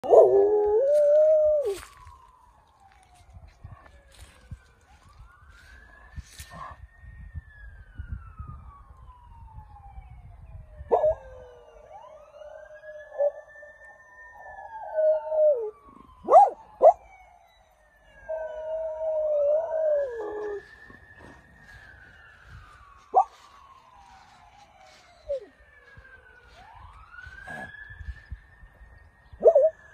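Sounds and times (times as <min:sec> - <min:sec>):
police siren wailing: 0:00.0 - 0:29.9.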